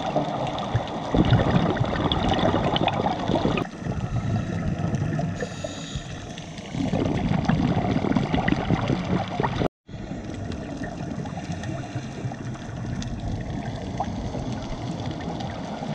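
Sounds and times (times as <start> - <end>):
diver's bubbles gurgling: 0.0 - 15.9
underwater water rush: 0.0 - 15.9.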